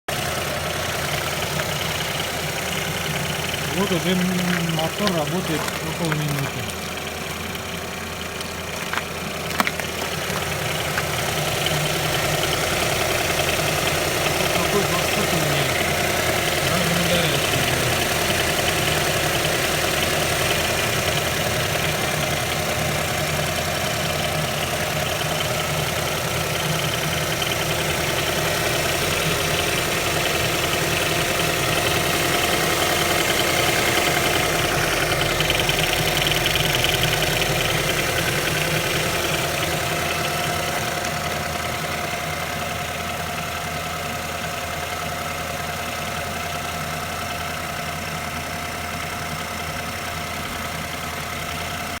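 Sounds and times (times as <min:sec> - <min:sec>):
car engine idling with a knock: 0:00.1 - 0:52.0.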